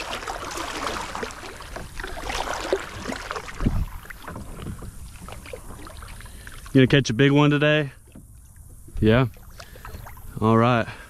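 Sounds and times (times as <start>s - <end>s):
kayak paddle splashing: 0.0s - 11.0s.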